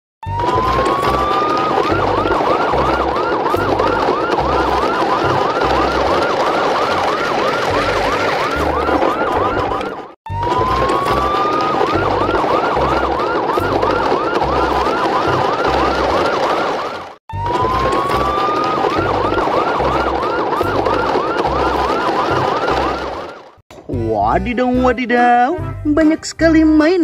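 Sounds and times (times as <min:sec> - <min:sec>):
siren wailing and yelping: 0:00.2 - 0:23.6.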